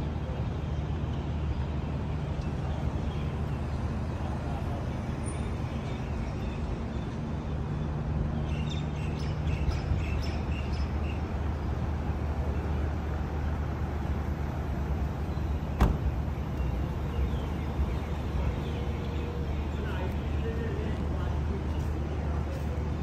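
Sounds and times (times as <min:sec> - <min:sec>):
car engines idling and passing: 0:00.0 - 0:23.0.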